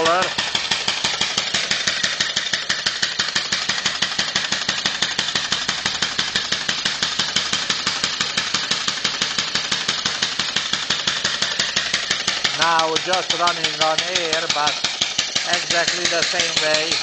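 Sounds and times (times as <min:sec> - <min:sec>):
air-driven engine running: 0:00.0 - 0:17.0.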